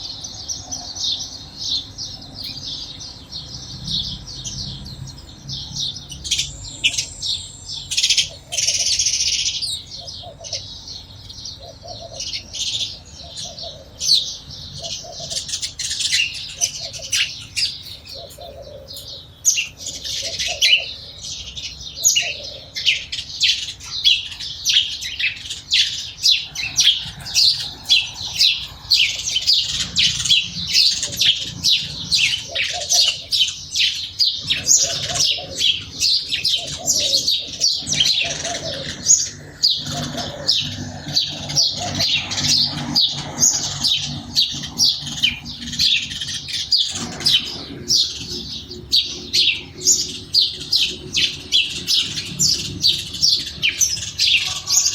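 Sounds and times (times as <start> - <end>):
sparrows chirping: 0.0 - 54.9.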